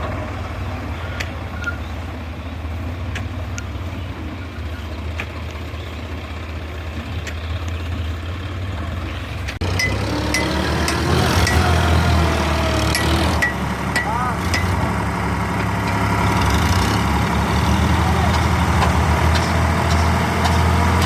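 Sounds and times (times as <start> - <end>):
heavy vehicle engine idling: 0.0 - 21.0.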